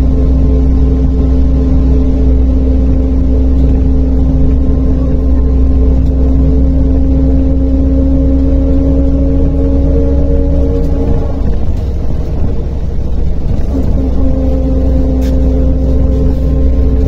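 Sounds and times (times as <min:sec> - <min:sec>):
bus diesel engine rumble: 0:00.0 - 0:17.0
constant hum of held tones: 0:00.0 - 0:17.0
road noise: 0:00.0 - 0:17.0.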